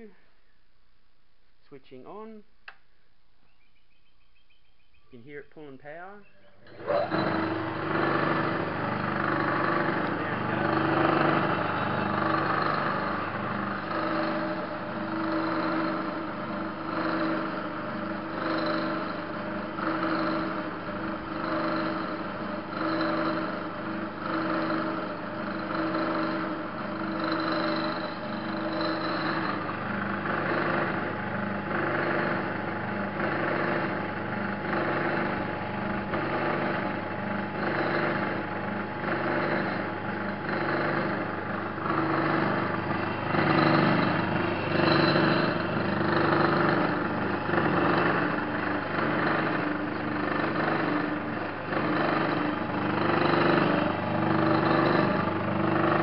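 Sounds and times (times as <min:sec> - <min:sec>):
electric motor humming: 0:06.6 - 0:56.0.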